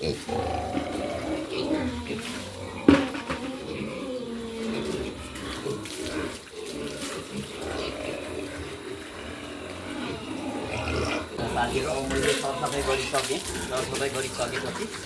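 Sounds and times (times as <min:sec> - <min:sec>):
pigs grunting: 0:00.0 - 0:15.0
water running and splashing: 0:00.0 - 0:15.0.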